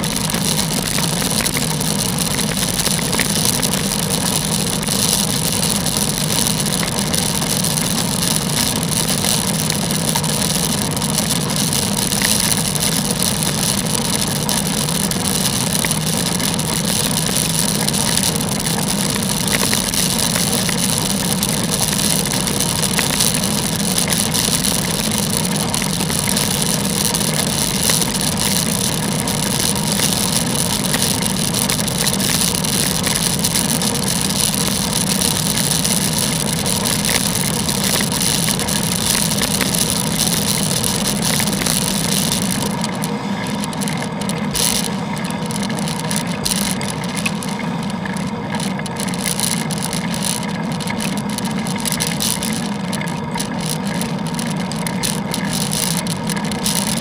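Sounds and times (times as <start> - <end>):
bicycle tyres on wet road: 0.0 - 57.0.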